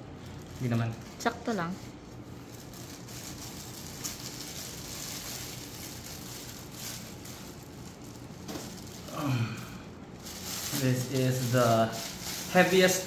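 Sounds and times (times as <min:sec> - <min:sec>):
plastic bag crinkling: 0:00.1 - 0:09.4, 0:10.0 - 0:13.0.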